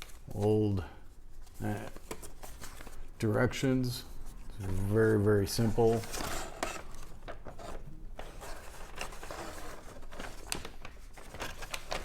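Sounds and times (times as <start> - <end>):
paper rustling and crinkling: 0.0 - 3.1, 4.1 - 12.0.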